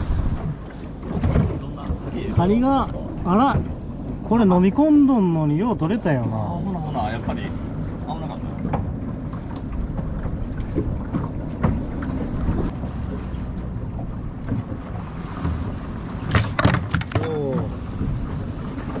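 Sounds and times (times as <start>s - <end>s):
low rumble: 0.0s - 16.4s
wind on microphone: 0.0s - 19.0s.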